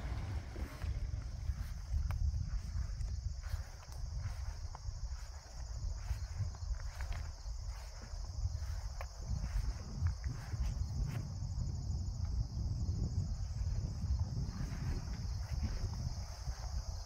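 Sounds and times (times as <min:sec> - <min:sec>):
insect chorus: 0:00.0 - 0:17.0
wind rumble on microphone: 0:00.0 - 0:17.0.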